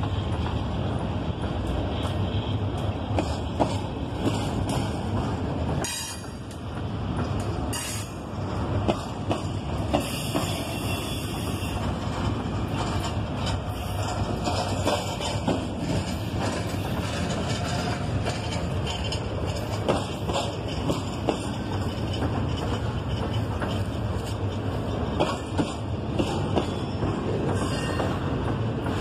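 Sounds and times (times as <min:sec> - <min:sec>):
train wheels rumbling on rail: 0:00.0 - 0:29.0
wheels clacking on rail joints: 0:00.0 - 0:29.0.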